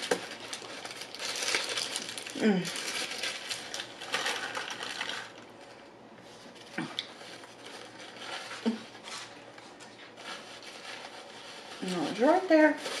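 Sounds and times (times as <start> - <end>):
paper napkin rustling: 0.0 - 13.0
paper wrapper crinkling: 0.0 - 13.0.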